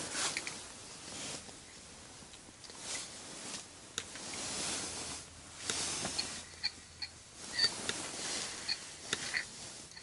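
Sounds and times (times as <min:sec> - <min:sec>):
rustling of gear and clothing: 0:00.0 - 0:10.0.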